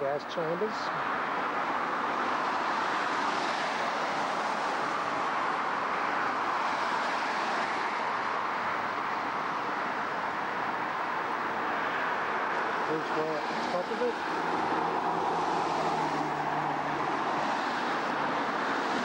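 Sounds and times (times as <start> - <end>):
passing cars: 0.0 - 19.0.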